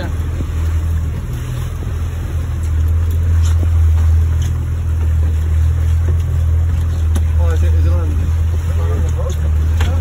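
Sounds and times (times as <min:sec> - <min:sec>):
boat engines deep hum: 0:00.0 - 0:10.0
rush of water and wind: 0:00.0 - 0:10.0.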